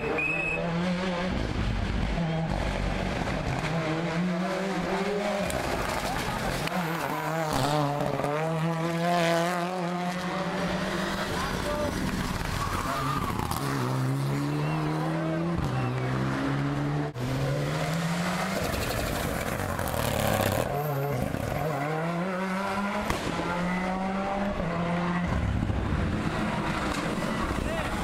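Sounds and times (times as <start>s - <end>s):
rally car engines at full throttle: 0.0s - 28.0s.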